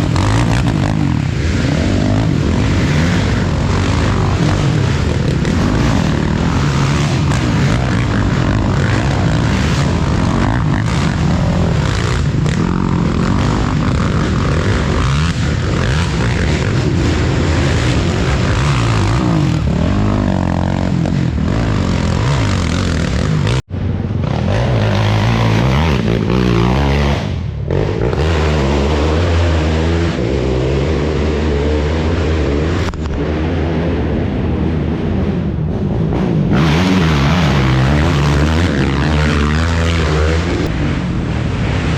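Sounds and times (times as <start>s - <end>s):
racing quad engines revving: 0.0s - 41.9s.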